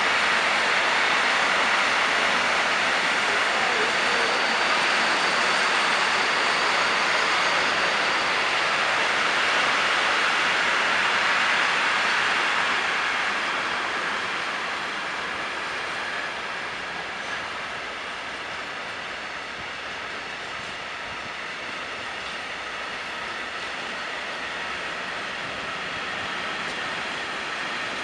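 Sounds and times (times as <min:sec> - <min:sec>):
train rolling past: 0:00.0 - 0:28.0.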